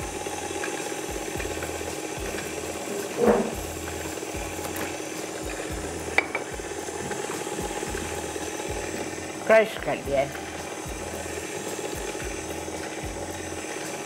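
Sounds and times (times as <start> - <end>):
stand mixer running: 0.0 - 14.0.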